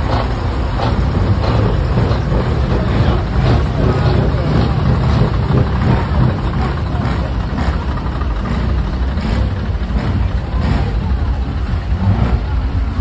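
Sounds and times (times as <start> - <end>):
diesel truck engines idling: 0.0 - 13.0.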